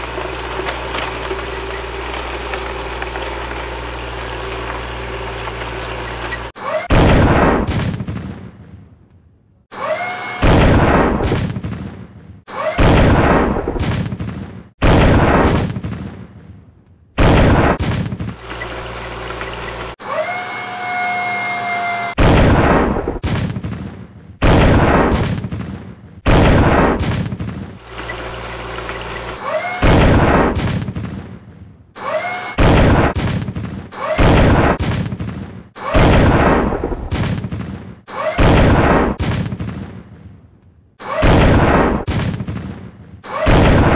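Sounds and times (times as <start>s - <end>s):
tank cannon blasts: 0.0s - 8.9s, 10.4s - 19.9s, 22.1s - 43.9s.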